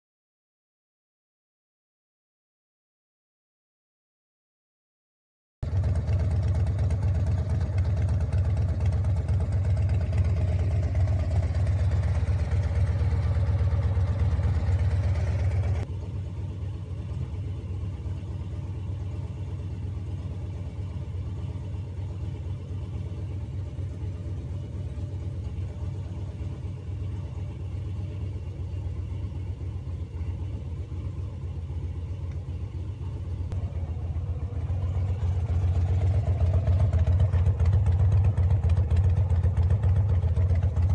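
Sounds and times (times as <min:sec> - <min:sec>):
motorcycle engine rumbling: 0:05.6 - 0:16.0, 0:17.2 - 0:40.9.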